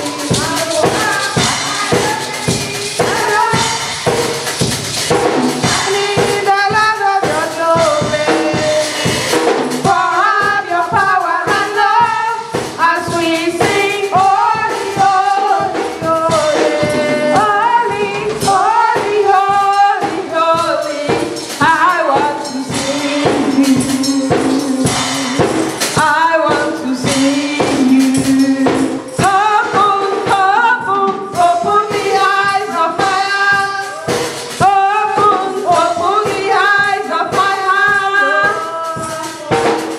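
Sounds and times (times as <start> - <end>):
gospel choir singing: 0.0 - 39.9
tambourine shaken in rhythm: 0.0 - 39.9.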